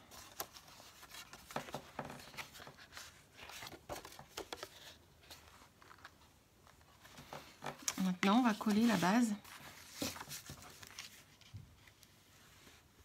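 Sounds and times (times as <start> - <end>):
card stock rustling and tapping: 0.1 - 12.1.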